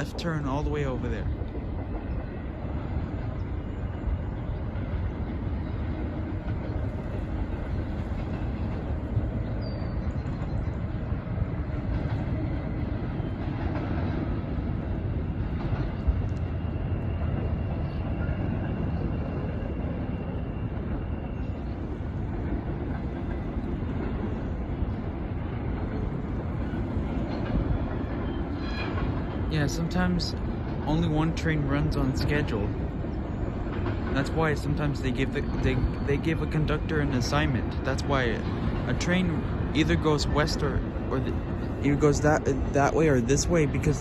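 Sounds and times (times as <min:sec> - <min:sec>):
steel wheels rumbling on rail: 0:00.0 - 0:44.0.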